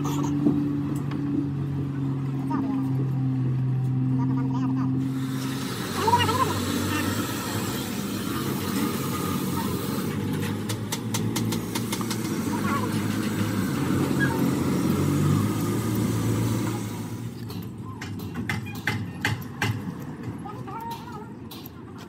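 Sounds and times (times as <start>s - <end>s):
motor engine running: 0.0s - 21.2s.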